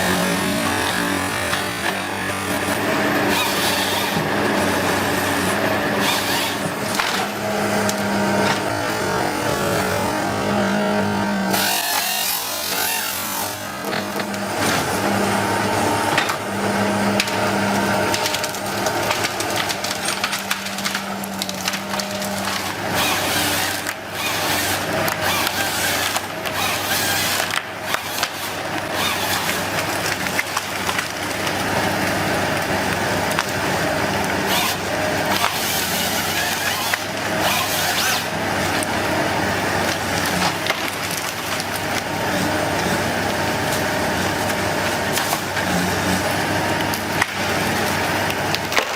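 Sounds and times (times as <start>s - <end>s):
wood crunching and splintering: 0.0s - 48.9s.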